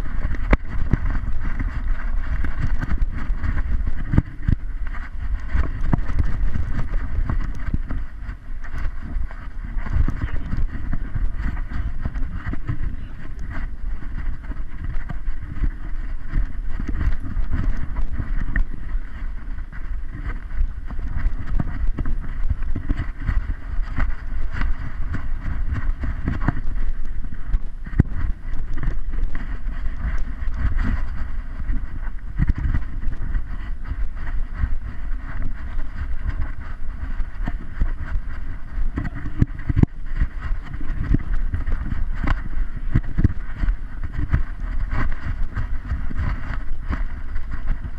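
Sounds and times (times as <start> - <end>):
low rumble: 0.0 - 47.9.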